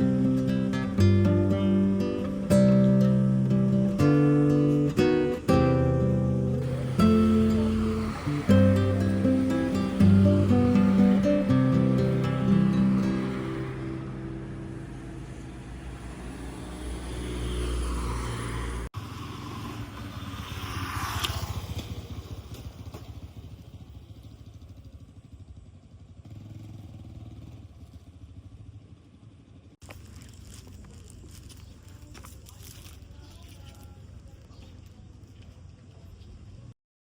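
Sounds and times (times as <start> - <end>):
motor vehicle passing by: 0.0 - 29.8
outdoor background noise: 0.0 - 36.8.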